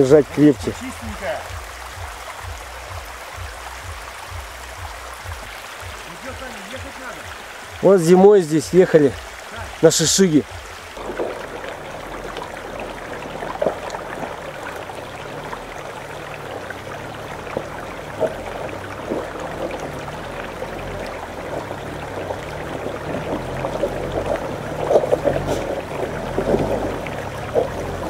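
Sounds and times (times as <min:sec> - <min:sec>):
brook trickling over stones: 0:00.0 - 0:28.0
suv engine hum: 0:00.0 - 0:28.0.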